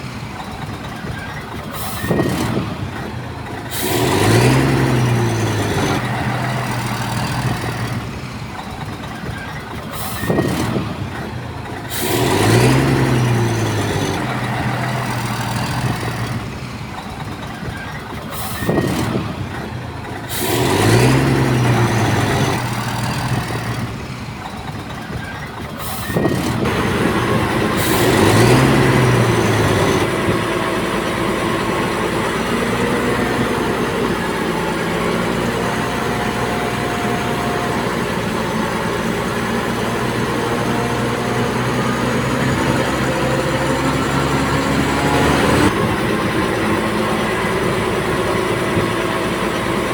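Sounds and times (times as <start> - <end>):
heavy diesel engine revving: 0.0 - 49.9.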